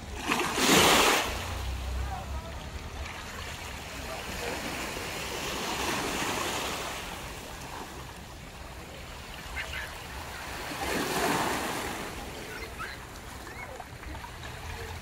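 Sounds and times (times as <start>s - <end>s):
waves at water's edge: 0.0s - 15.0s
wind: 0.0s - 15.0s.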